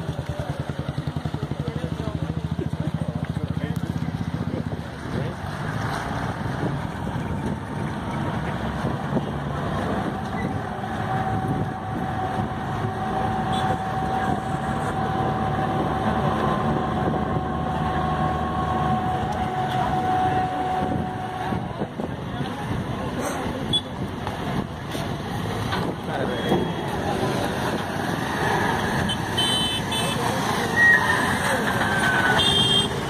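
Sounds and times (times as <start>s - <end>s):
ferry engine running: 0.0s - 33.0s.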